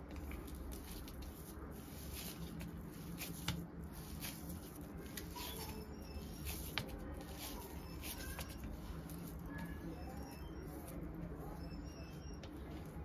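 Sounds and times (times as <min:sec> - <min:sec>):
hands kneading cheese: 0:00.0 - 0:13.0.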